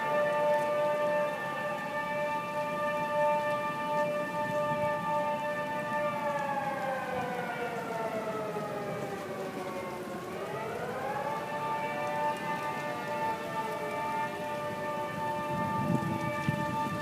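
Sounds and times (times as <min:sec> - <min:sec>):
tornado warning siren: 0:00.0 - 0:17.0.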